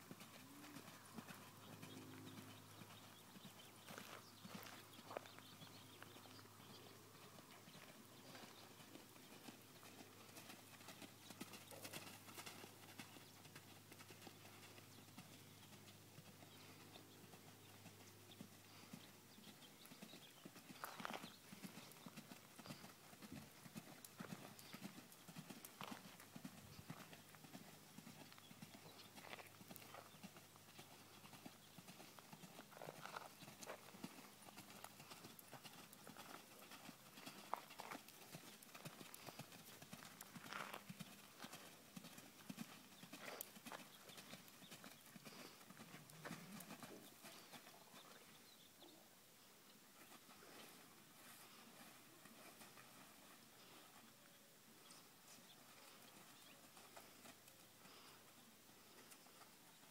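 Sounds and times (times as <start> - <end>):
hoofbeats on soft dirt: 0.0 - 48.9, 49.9 - 59.9.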